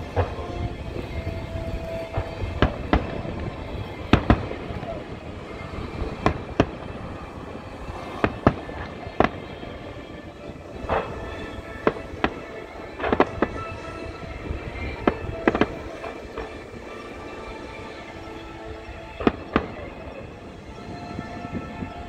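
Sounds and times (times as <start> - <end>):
firework shells bursting: 0.0 - 21.9
faint background music: 0.0 - 22.0.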